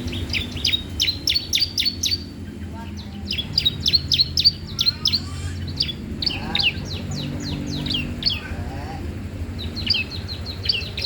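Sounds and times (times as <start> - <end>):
low background hum: 0.0 - 11.0
songbird chirping: 0.0 - 11.0.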